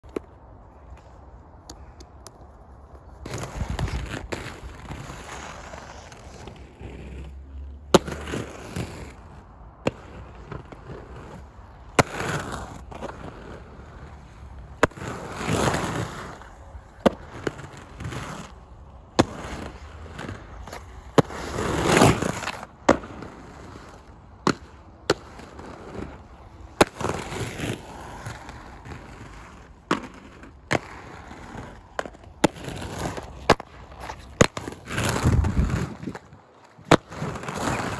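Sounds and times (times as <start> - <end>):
skate wheels rolling on concrete: 0.0 - 37.9
skates clacking on concrete: 0.0 - 37.9.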